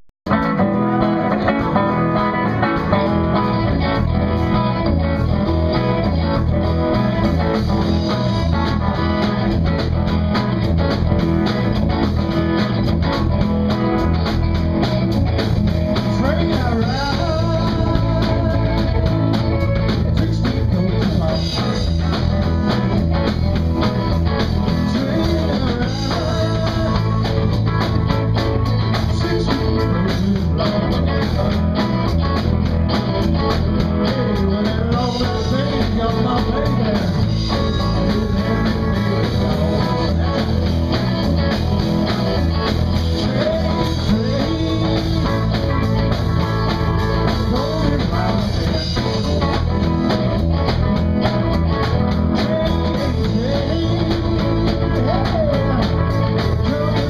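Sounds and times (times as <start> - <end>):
blues-rock band playing: 0.2 - 57.0
electric guitar gliding up in pitch: 0.3 - 57.0.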